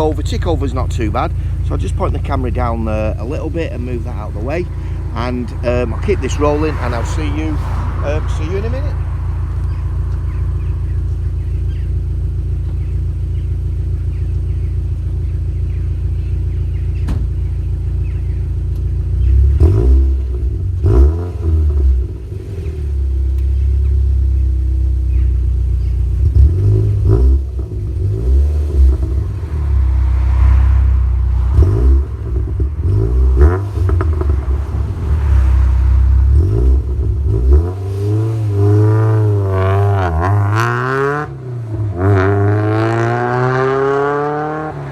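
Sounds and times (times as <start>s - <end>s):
car engine idling loudly: 0.0s - 40.6s
car accelerating and changing gear: 0.0s - 44.9s.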